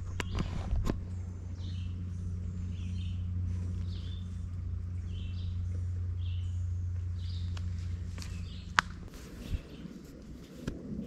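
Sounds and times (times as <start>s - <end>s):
birds chirping: 0.0s - 10.4s
steady low hum: 0.0s - 11.0s.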